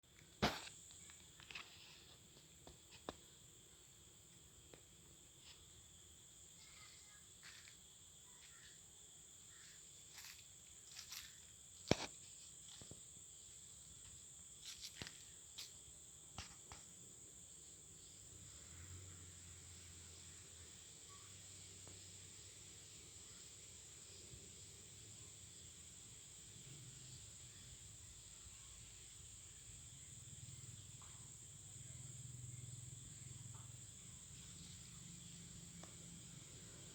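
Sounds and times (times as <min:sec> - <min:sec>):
insect chorus: 0:00.0 - 0:36.9.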